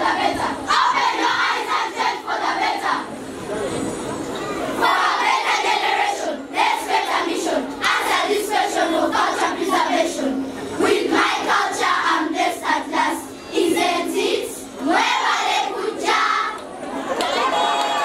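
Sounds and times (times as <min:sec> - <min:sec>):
children reciting in chorus: 0:00.0 - 0:03.2, 0:04.7 - 0:16.6.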